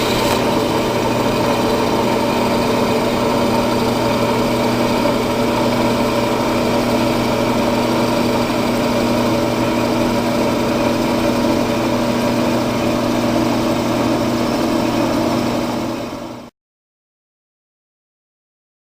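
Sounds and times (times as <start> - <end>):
brake lathe motor hum: 0.0 - 16.4.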